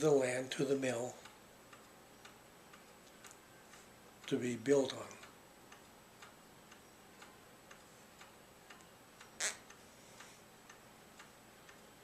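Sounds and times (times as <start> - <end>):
clock ticking: 0.0 - 9.8, 10.6 - 12.0.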